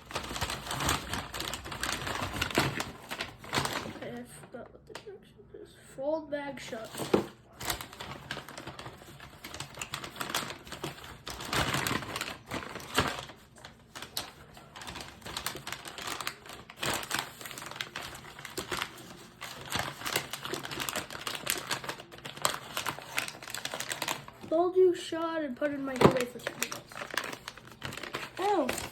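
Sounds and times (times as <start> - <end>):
popcorn bag crinkling: 0.0 - 4.5, 6.6 - 28.9.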